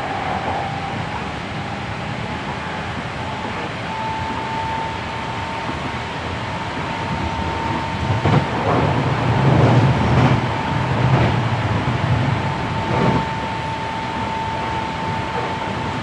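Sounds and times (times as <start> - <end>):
high whine: 0.0 - 16.0
train rail and running noise: 0.0 - 16.0.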